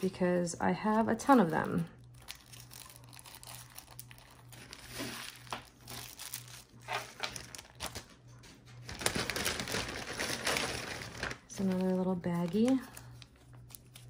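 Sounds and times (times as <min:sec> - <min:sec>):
plastic baggies crinkling: 0:00.8 - 0:14.0.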